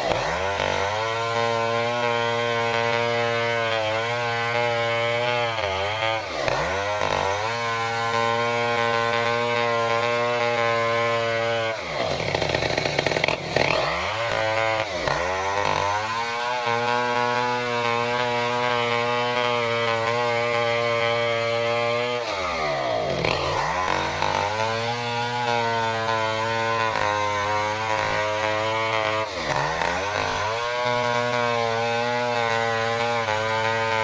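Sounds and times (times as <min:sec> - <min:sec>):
chainsaw cutting log: 0:00.0 - 0:34.0.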